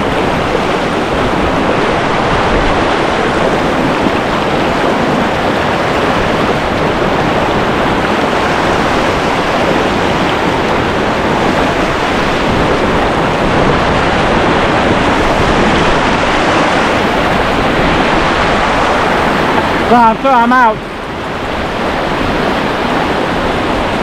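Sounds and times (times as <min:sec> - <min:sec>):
whitewater rushing through rapid: 0:00.0 - 0:24.0.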